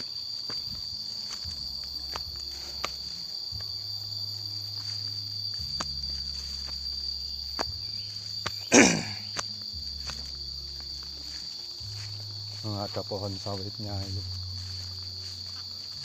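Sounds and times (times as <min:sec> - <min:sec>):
footsteps on stony path: 0:00.0 - 0:16.0
insects chirring: 0:00.0 - 0:16.0.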